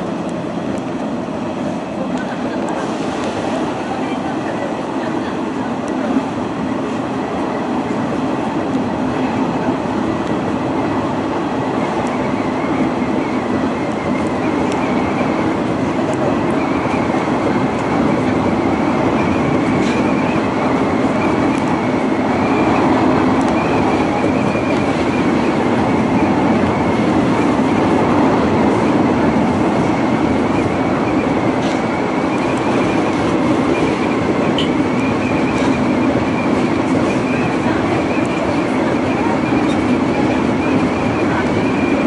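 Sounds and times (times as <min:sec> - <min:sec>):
train wheels and motors rumbling: 0:00.0 - 0:42.0.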